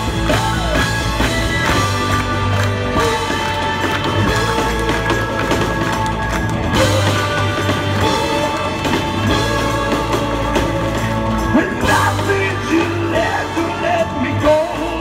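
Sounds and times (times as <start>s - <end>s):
bass: 0.0s - 15.0s
drum kit: 0.0s - 15.0s
electric guitars: 0.0s - 15.0s
horn section: 0.0s - 15.0s.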